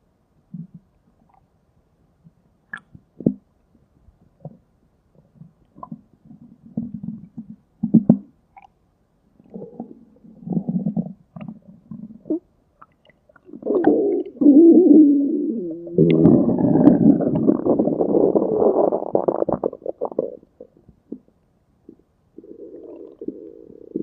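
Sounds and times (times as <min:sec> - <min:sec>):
stomach gurgling and growling: 0:00.5 - 0:01.5, 0:04.4 - 0:08.8, 0:09.4 - 0:24.0.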